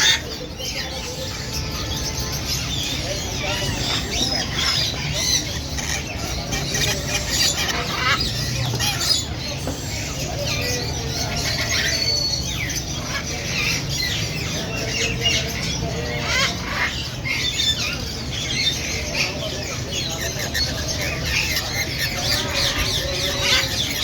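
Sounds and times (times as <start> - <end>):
parrots squawking and screeching: 0.0 - 24.0.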